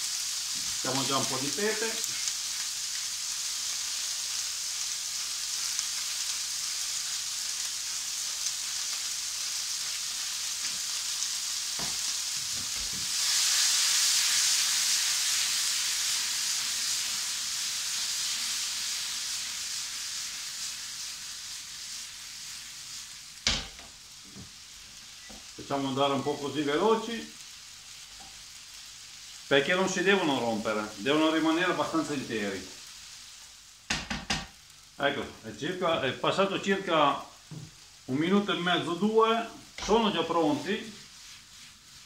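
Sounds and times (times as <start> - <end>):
tomatoes sizzling in oil: 0.0 - 42.0.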